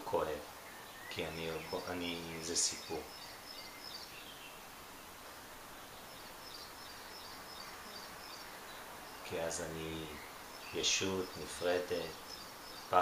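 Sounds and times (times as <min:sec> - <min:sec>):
room hiss: 0:00.0 - 0:13.0
faint high chirping: 0:00.2 - 0:13.0.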